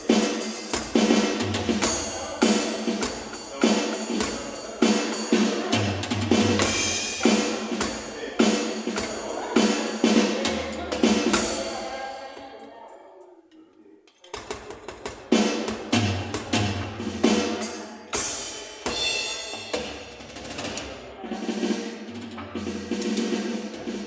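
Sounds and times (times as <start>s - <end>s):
cymbal ringing out: 0.0s - 12.1s, 16.0s - 24.0s
electronic drum kit groove: 0.0s - 12.1s, 14.4s - 24.0s.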